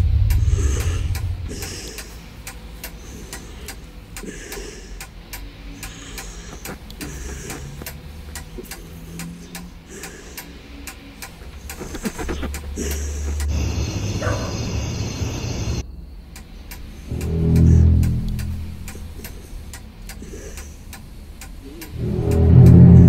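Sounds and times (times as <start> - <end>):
steady ticking: 0.0 - 14.2, 16.2 - 23.0
low hum: 0.0 - 23.0.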